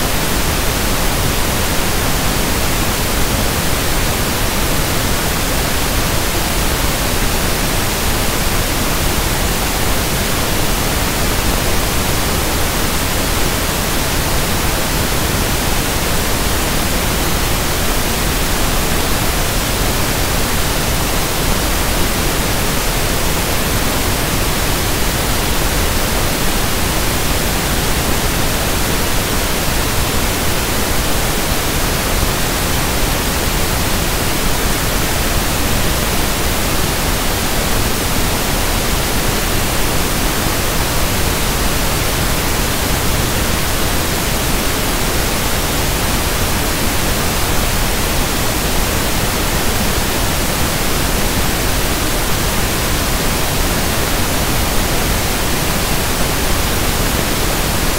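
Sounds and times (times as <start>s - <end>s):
steady pink noise hiss: 0.0s - 57.9s.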